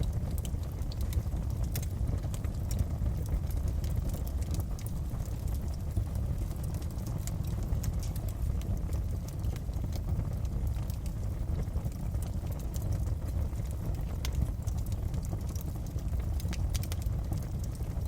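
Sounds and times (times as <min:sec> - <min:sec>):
fire pops and snaps: 0:00.0 - 0:18.0
wood fire crackling: 0:00.0 - 0:18.0.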